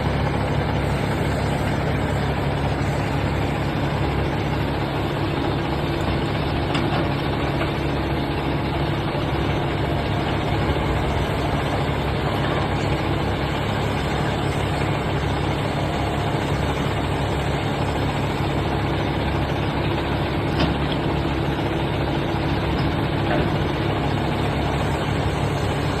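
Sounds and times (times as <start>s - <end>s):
heavy engine running steadily: 0.0s - 26.0s.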